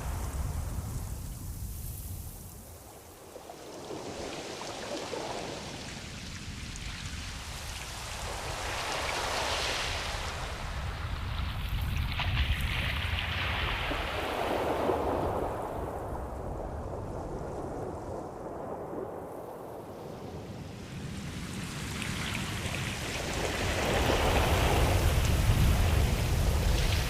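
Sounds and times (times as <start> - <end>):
ocean waves washing in and out: 0.0 - 27.0.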